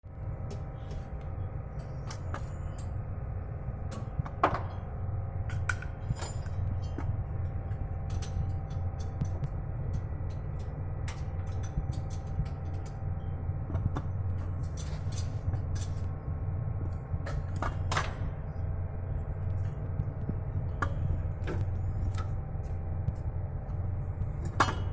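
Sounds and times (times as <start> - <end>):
low mechanical hum: 0.0 - 24.9.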